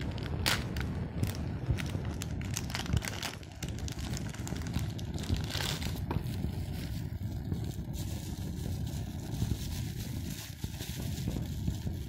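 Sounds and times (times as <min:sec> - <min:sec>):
plastic packaging crinkling: 0:00.0 - 0:12.0
steady low rumble: 0:00.0 - 0:12.0.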